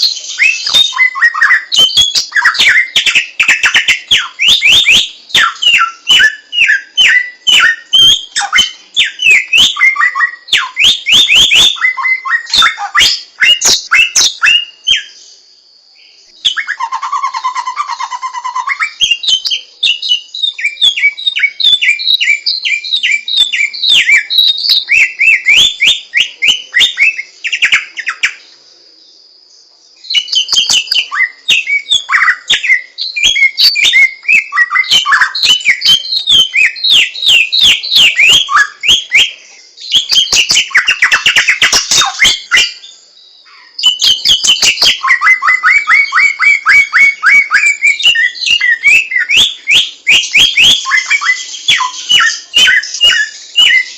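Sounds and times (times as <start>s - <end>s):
songbird chirping and trilling: 0.0s - 53.9s.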